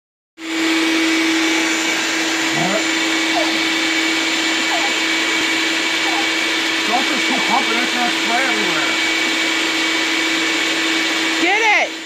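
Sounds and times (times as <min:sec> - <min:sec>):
motor-driven appliance whirring: 0:00.4 - 0:12.0.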